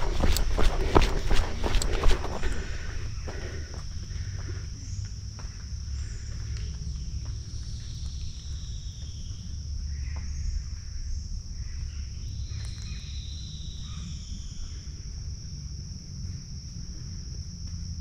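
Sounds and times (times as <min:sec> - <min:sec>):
constant low rumble: 0:00.0 - 0:18.0
insects droning high-pitched: 0:00.0 - 0:18.0.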